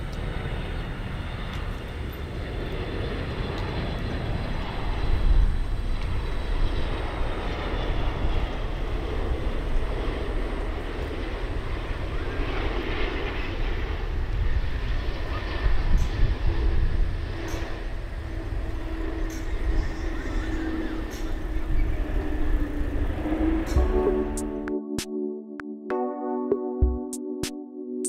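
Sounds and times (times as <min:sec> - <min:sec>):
airliner jet engines: 0:00.0 - 0:24.8.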